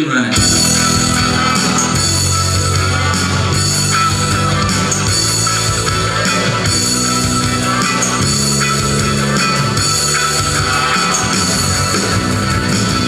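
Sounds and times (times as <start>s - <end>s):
electric guitar playing rock chords: 0.3s - 13.0s.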